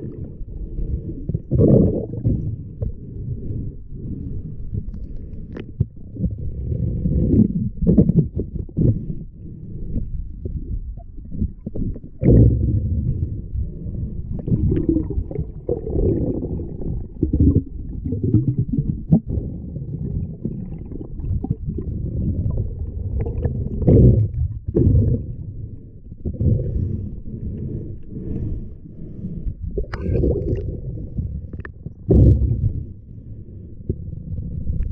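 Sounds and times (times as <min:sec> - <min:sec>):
muffled underwater water sloshing: 0:00.0 - 0:34.9.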